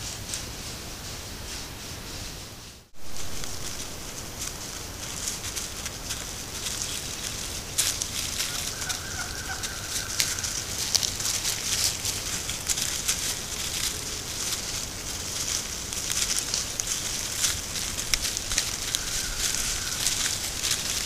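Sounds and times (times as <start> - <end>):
leaves rustling underfoot: 0.0 - 21.0.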